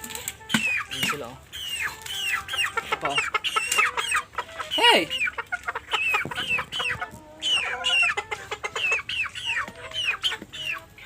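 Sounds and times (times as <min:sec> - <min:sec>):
chickens clucking: 0:00.0 - 0:11.0
chicks chirping and peeping: 0:00.0 - 0:11.0.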